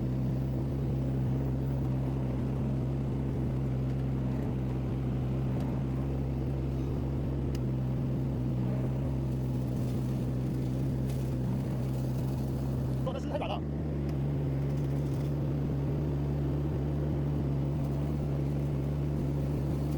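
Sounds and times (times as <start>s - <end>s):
loader engine humming: 0.0s - 19.9s.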